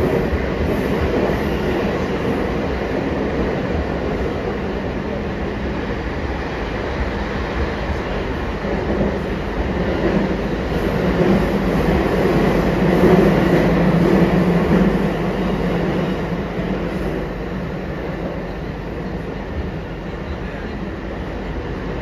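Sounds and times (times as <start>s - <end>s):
low train hum: 0.0s - 22.0s
train wheels rumbling on rails: 0.0s - 22.0s.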